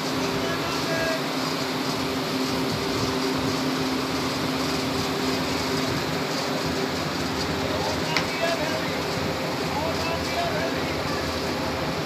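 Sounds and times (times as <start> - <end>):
machine hum with low tone: 0.0 - 12.0.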